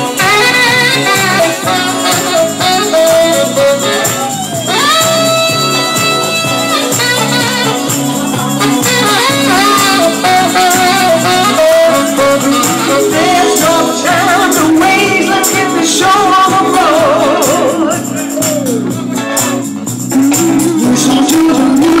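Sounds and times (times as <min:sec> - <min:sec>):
light percussion beat: 0:00.0 - 0:22.0
live band playing: 0:00.0 - 0:22.0.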